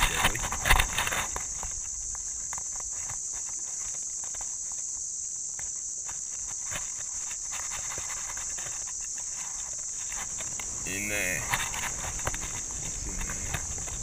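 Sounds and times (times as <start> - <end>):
cicadas chorus: 0.0 - 14.0.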